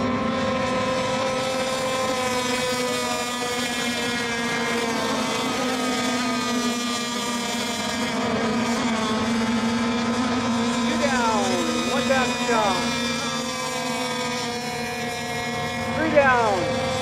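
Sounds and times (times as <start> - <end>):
racing boat engines whining: 0.0 - 17.0.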